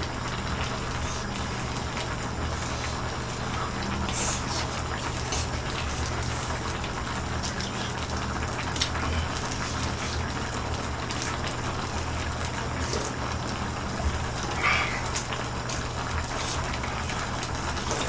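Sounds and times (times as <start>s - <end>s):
stew bubbling in pot: 0.0s - 18.0s.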